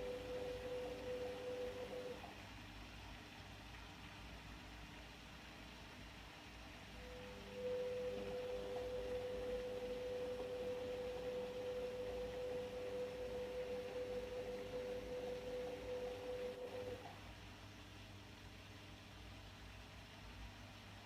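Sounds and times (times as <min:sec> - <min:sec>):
washing machine steady tone: 0:00.0 - 0:21.0.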